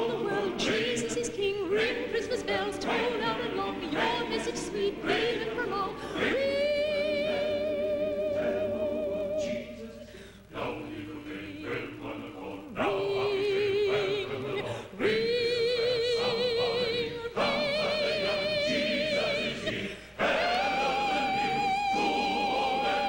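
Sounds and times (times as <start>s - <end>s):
male voice choir singing: 0.0s - 23.0s.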